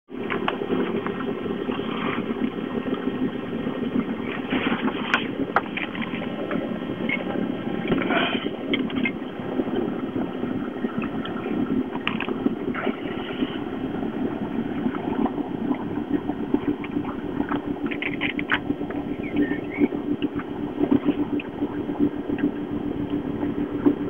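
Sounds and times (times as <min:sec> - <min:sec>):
motorboat engine humming: 0:00.1 - 0:24.0
water splashing against hull: 0:00.1 - 0:24.0.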